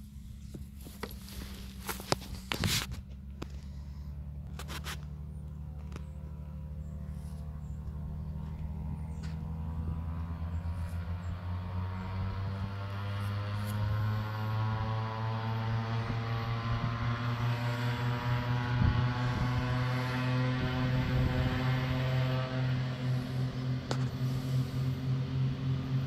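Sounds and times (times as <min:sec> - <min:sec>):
propeller plane engines droning: 0:00.0 - 0:26.0.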